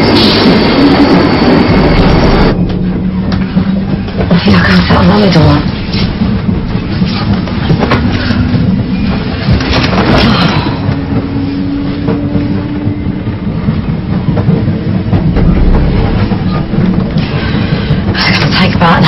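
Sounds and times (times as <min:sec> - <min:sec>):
passenger train rumble and rattle: 0:00.0 - 0:19.0
sharp train clacks: 0:00.0 - 0:19.0.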